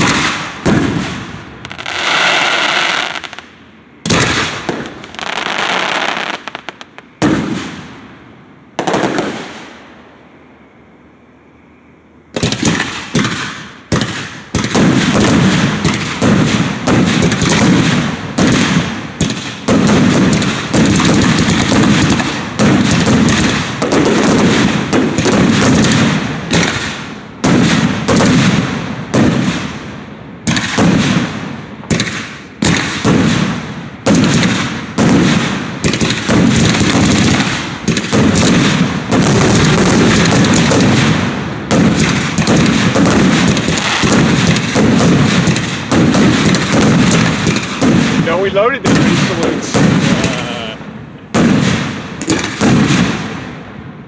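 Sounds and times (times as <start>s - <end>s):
fireworks bangs: 0.0s - 10.0s, 12.3s - 54.0s.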